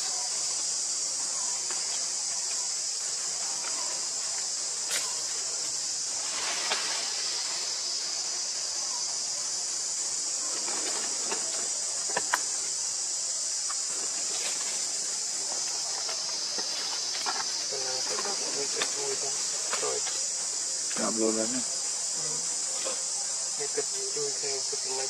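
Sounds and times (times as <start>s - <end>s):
insects buzzing: 0.0s - 25.0s.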